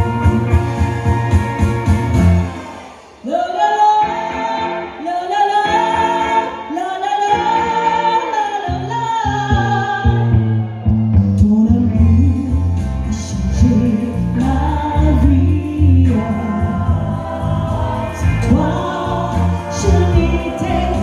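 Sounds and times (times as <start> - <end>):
amplified instrumental music with bass: 0.0 - 3.1, 7.3 - 21.0
woman singing into microphone: 3.2 - 10.5, 11.4 - 21.0.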